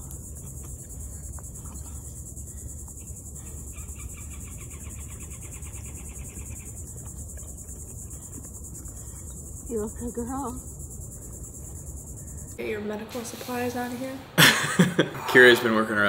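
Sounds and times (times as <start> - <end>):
evenly ticking trill: 0.0 - 13.0
insects trilling: 0.0 - 16.0.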